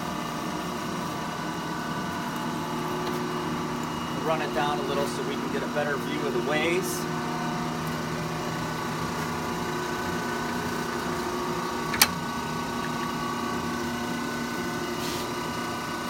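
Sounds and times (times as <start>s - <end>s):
lathe running with steady hum: 0.0s - 16.0s.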